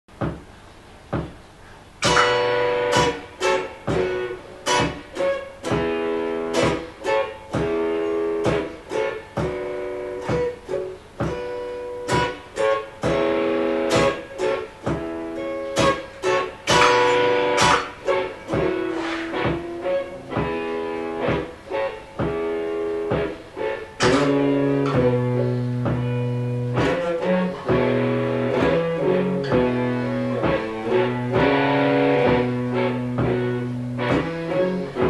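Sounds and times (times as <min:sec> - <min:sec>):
electric guitar strumming chords: 0:00.1 - 0:35.0.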